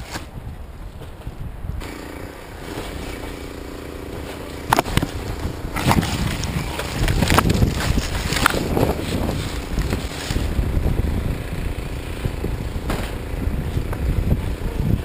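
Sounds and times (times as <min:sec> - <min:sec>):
branches knocking and scraping plane: 0:00.0 - 0:14.9
wind buffeting microphone: 0:00.0 - 0:15.0.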